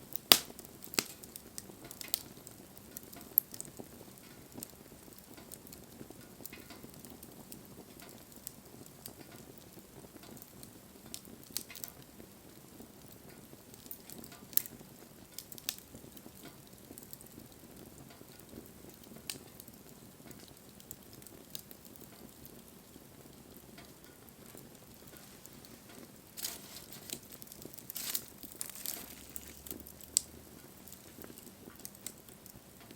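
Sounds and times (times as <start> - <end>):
campfire flames hissing: 0.0 - 32.9
fire crackles and pops: 0.0 - 32.9.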